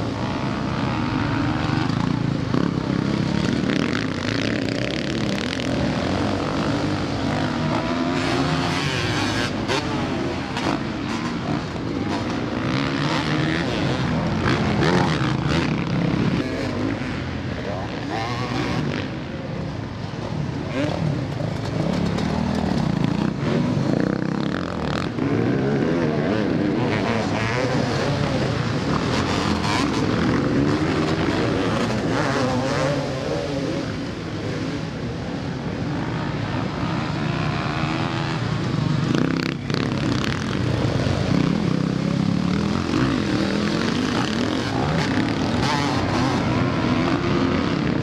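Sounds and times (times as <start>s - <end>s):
motocross bike engines revving: 0.0s - 48.0s.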